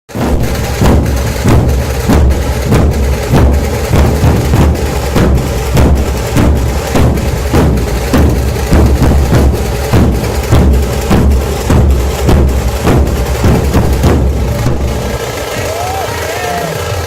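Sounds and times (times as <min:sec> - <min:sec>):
deep booming barrel drums: 0:00.1 - 0:17.0
rapid drum stick strokes: 0:00.1 - 0:17.0.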